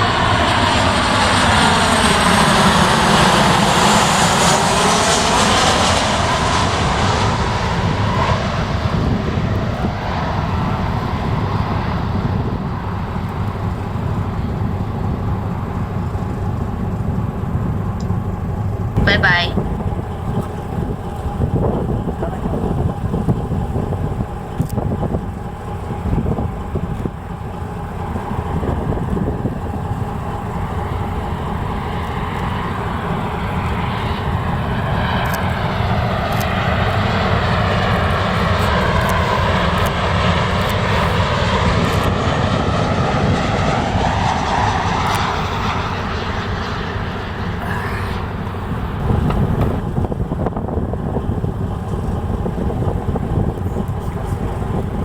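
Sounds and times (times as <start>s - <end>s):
jet airliner passing overhead: 0.0s - 55.0s
low rumble: 0.0s - 55.0s.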